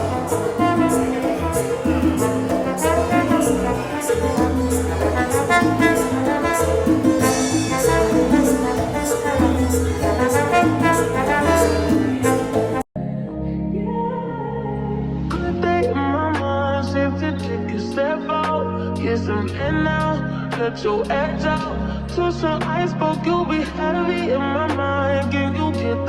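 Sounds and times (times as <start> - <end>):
upbeat latin music with brass: 0.0 - 12.9, 15.3 - 26.0.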